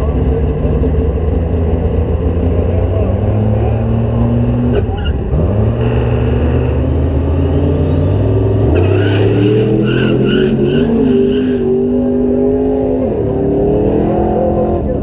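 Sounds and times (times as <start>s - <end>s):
diesel truck engine accelerating: 0.0s - 15.0s.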